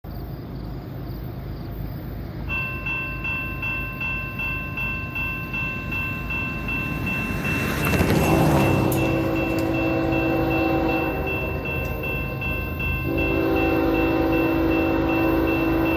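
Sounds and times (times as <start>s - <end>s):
freight train rumbling: 0.0s - 15.9s
railway crossing bell ringing: 2.4s - 15.9s.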